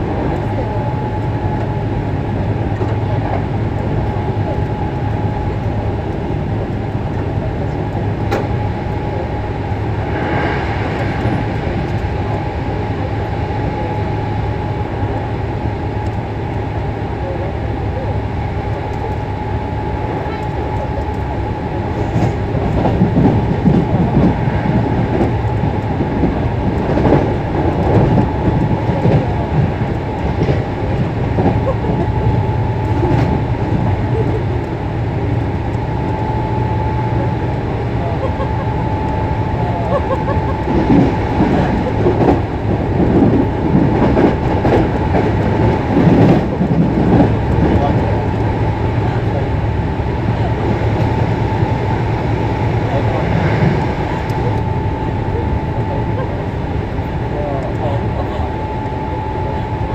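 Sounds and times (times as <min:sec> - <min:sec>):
train running rumble and whine: 0:00.0 - 0:59.9.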